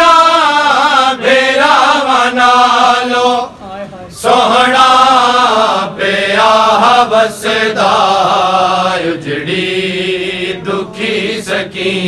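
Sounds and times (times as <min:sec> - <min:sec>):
men chanting in unison: 0:00.0 - 0:03.6, 0:04.2 - 0:12.0.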